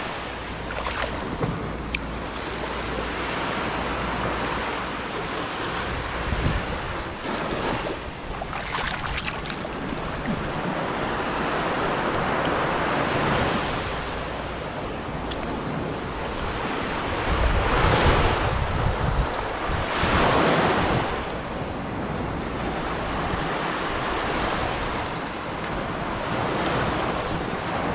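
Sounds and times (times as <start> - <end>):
sea waves washing onto beach: 0.0 - 27.9
wind buffeting microphone: 0.0 - 27.9.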